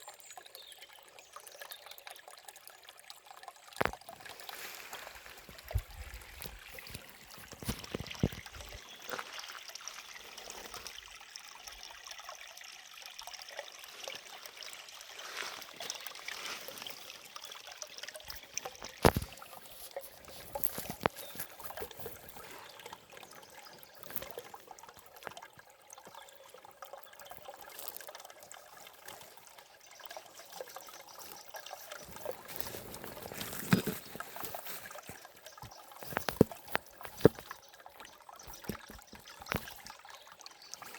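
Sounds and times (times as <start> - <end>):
river water trickling: 0.0 - 40.9
sharp drips and splashes: 0.0 - 40.9.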